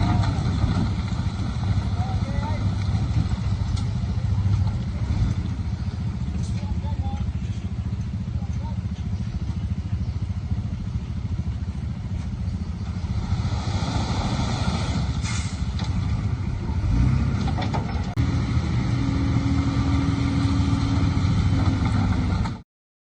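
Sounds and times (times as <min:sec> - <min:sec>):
heavy diesel engine running: 0:00.0 - 0:22.6.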